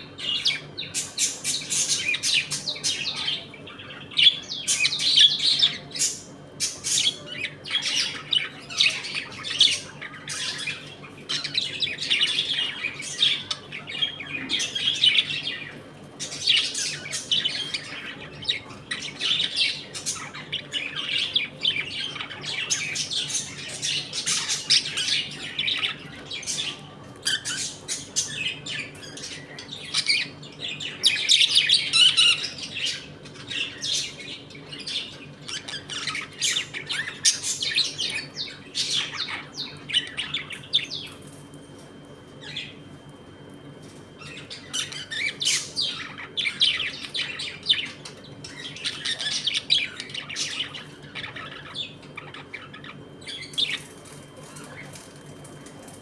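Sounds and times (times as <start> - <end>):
budgerigars chattering: 0.0 - 41.2, 44.1 - 55.0.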